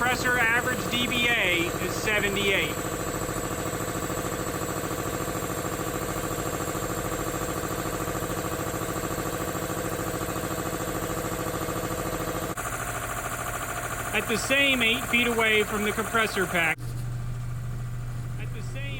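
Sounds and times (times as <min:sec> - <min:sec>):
air compressor pulsing: 0:00.0 - 0:18.9.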